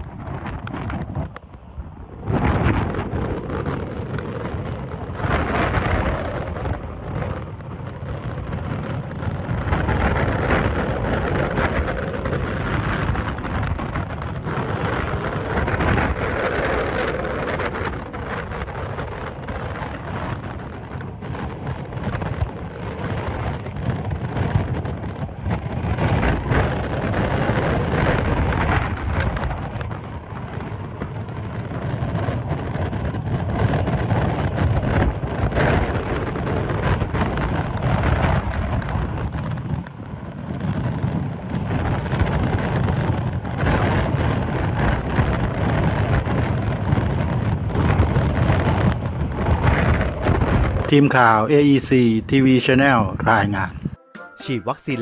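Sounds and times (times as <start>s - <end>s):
hurricane-force wind: 0.0s - 54.0s
wind buffeting microphone: 0.0s - 54.0s.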